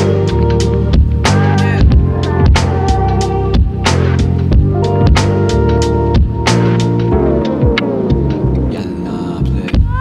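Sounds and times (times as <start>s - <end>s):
sustained chords: 0.0s - 9.7s.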